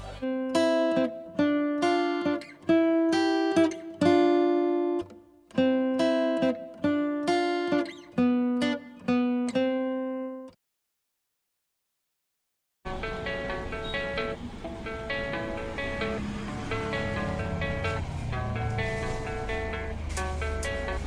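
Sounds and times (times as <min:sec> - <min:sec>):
acoustic guitar strummed chords: 0:00.0 - 0:10.6, 0:12.9 - 0:21.0.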